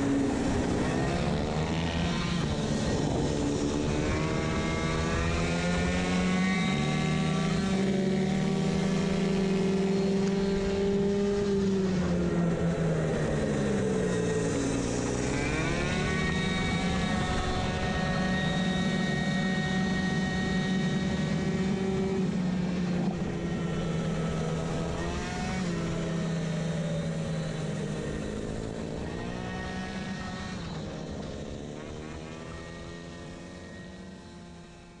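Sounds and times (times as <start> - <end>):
two-stroke moped engine revving: 0.0 - 35.0.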